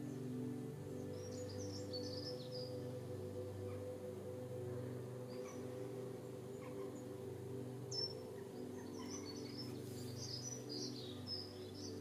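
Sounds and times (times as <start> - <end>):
songbirds singing faintly: 0.0 - 12.0.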